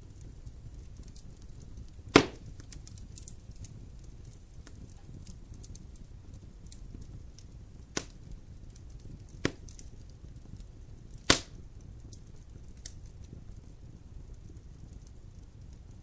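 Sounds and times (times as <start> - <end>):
low steady fire rumble: 0.0 - 16.0
sharp fire pops: 0.0 - 16.0
wood fire crackling: 0.0 - 16.0.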